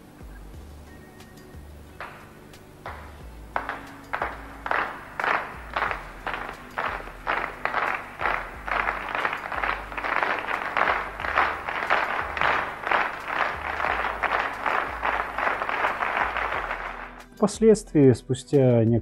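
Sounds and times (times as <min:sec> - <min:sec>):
crowd clapping in unison: 0:02.0 - 0:17.3.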